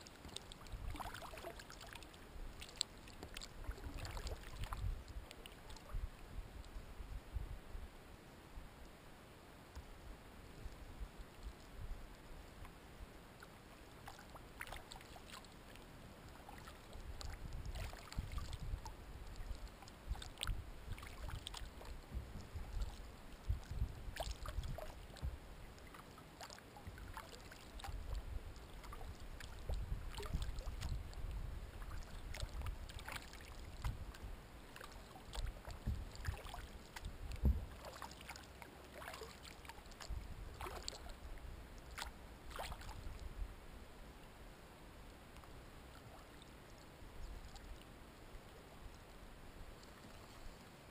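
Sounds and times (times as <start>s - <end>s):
paddle splashes and drips: 0.0s - 6.8s, 10.5s - 43.3s, 45.3s - 50.8s.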